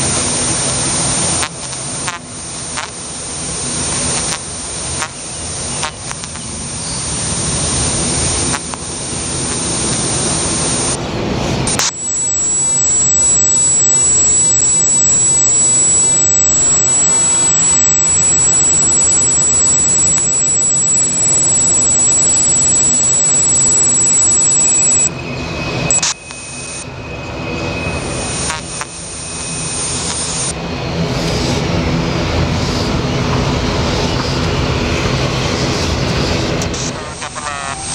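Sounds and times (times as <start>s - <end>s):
jet engines roaring with whine: 0.0s - 37.9s.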